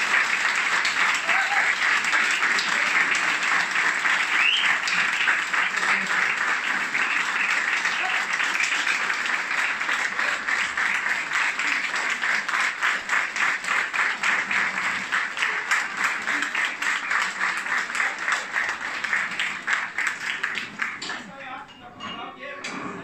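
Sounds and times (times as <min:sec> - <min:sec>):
audience clapping in unison: 0:00.0 - 0:21.6.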